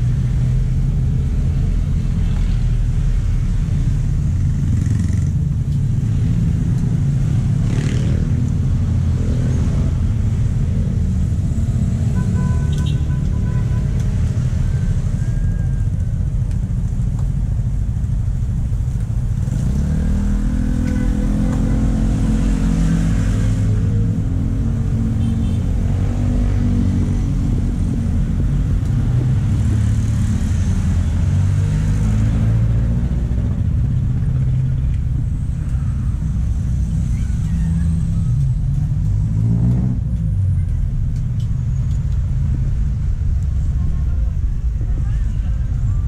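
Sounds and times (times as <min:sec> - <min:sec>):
low traffic rumble: 0:00.0 - 0:46.0.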